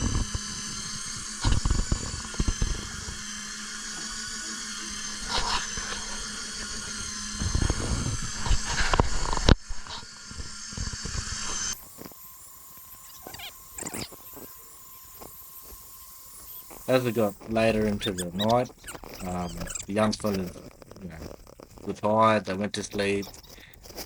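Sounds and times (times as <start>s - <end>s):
high-pitched mechanical whine: 0.0s - 24.0s
low hum: 0.0s - 24.0s.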